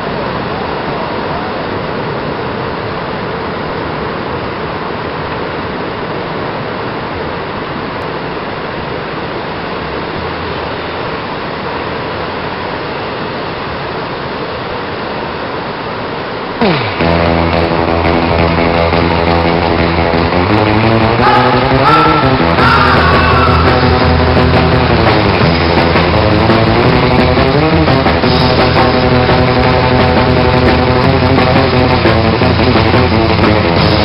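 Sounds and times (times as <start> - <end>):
ocean surf on beach: 0.0 - 34.0.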